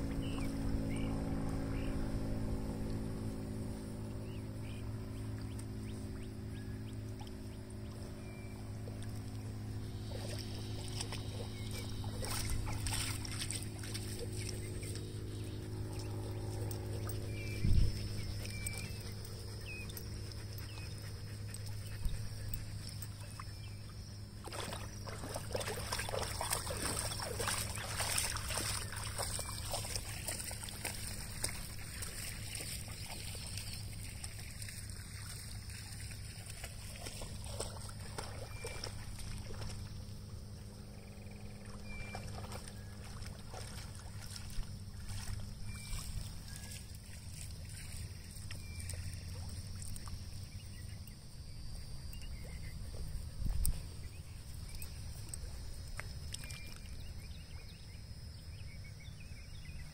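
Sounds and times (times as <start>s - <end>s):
dogs splashing in water: 0.0s - 57.8s
steady low hum: 0.0s - 59.9s.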